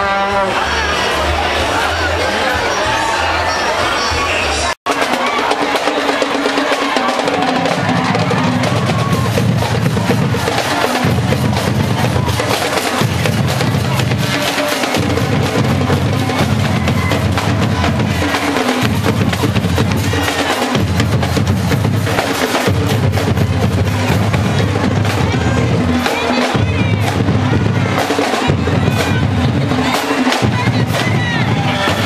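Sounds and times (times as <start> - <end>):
crowd clamor: 0.0 - 32.0
deep drum beats: 4.9 - 32.0.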